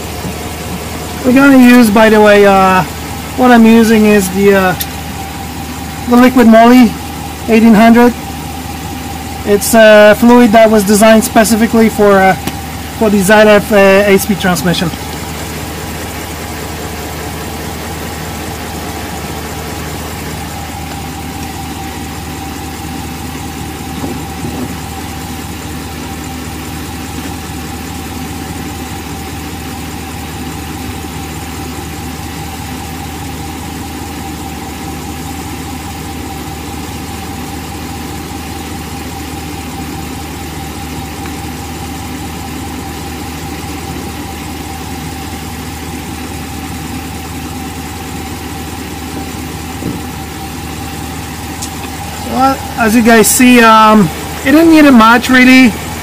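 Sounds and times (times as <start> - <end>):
pickup truck engine idling: 0.0 - 56.0.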